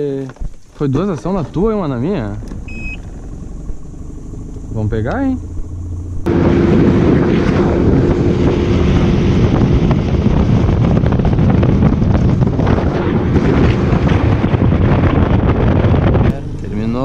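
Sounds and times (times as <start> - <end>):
wind buffeting microphone: 0.0 - 17.0
outboard motor running: 0.9 - 17.0.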